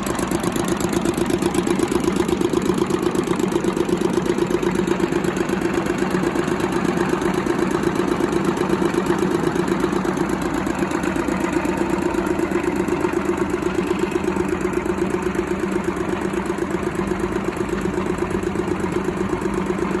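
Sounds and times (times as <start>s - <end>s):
diesel tractor engine idling: 0.0s - 20.0s.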